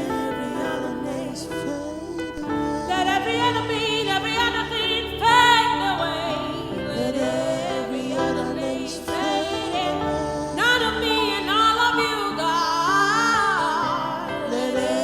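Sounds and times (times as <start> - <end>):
keyboard chords: 0.0 - 15.0
person singing with vibrato: 0.0 - 15.0.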